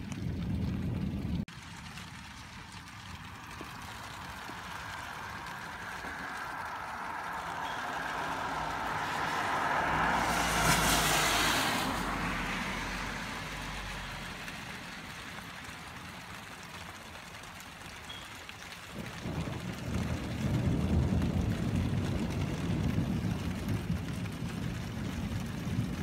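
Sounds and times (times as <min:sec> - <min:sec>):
car tyres hissing on wet road: 0:01.5 - 0:26.0.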